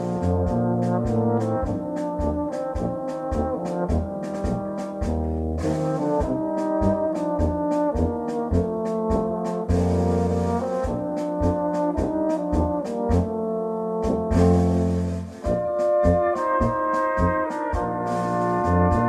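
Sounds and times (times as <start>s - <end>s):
steady percussion beat: 0.0s - 13.4s, 14.0s - 19.0s
brass band playing polka: 0.0s - 19.0s.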